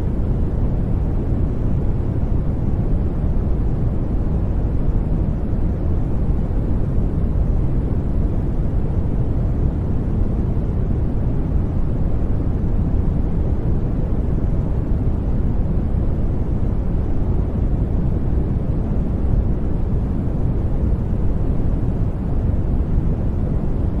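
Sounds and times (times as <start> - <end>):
deep brown noise hiss: 0.0 - 24.0.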